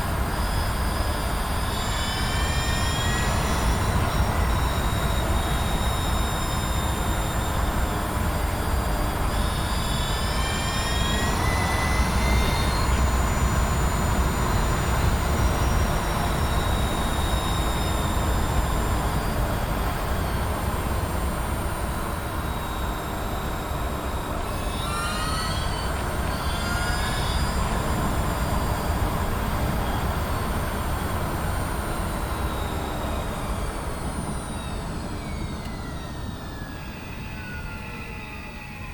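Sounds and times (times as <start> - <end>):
rising whine: 0.0 - 38.9.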